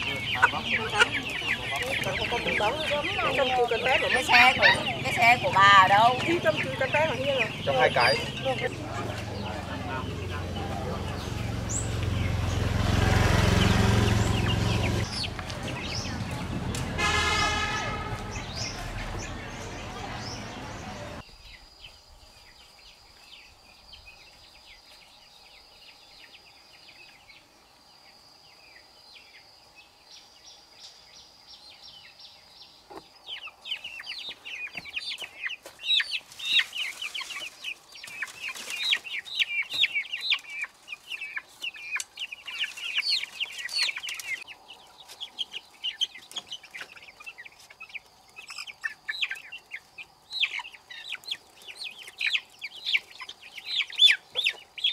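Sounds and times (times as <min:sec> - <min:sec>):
chickens calling: 0:00.0 - 0:54.9.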